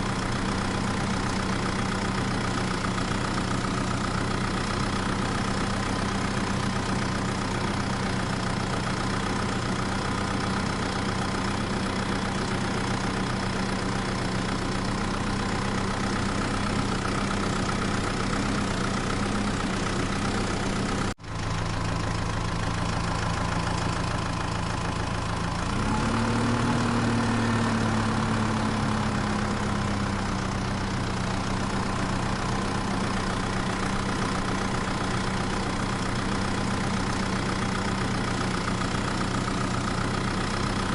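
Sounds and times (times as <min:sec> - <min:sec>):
engine idling and revving: 0:00.0 - 0:40.9.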